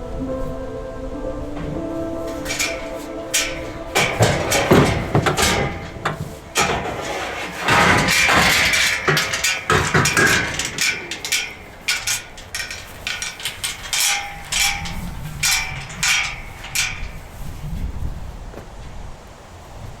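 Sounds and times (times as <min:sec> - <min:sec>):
hammer blows: 0:01.4 - 0:17.8.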